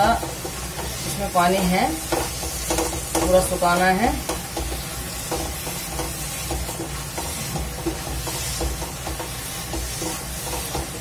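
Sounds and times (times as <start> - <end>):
spatula scraping mash in pan: 0.0 - 11.0
steady sizzle: 0.0 - 11.0.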